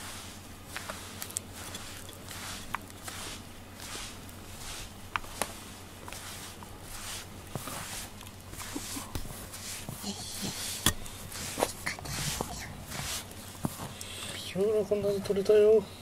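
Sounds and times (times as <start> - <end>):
brush rustling through fur: 0.0 - 15.7.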